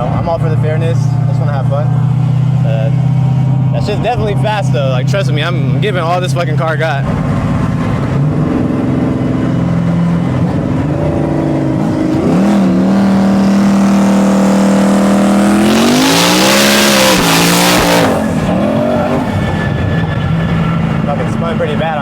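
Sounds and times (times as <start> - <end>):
car engine pulling hard: 0.0 - 22.0.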